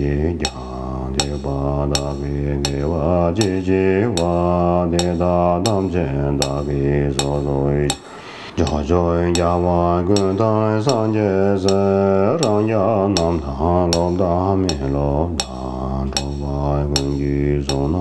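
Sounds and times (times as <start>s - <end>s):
man chanting a prayer: 0.0s - 8.0s, 8.6s - 18.0s
sharp clicks keeping time: 0.0s - 18.0s.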